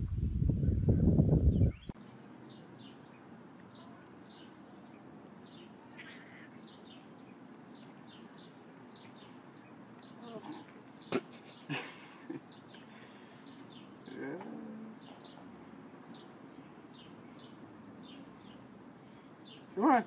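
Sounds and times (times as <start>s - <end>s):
small birds chirping: 1.3s - 20.0s.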